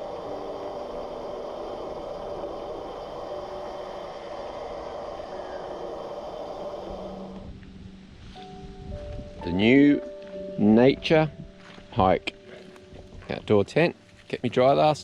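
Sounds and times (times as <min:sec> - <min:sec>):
wind on microphone: 0:00.0 - 0:12.2
bike tyres rolling hum: 0:00.0 - 0:13.5.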